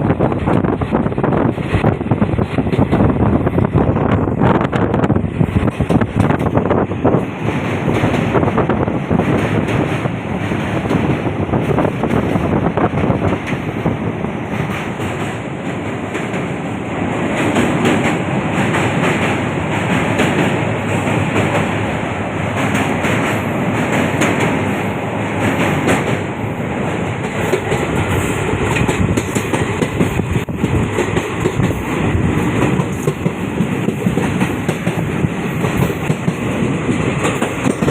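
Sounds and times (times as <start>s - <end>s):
train wheels rumbling on rails: 0.0s - 37.9s
wheels clickety-clack over rail joints: 0.0s - 37.9s.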